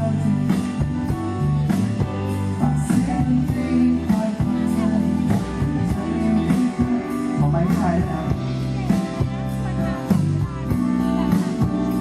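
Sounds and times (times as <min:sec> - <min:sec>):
live pop-rock band: 0:00.0 - 0:12.0
person singing: 0:00.0 - 0:12.0.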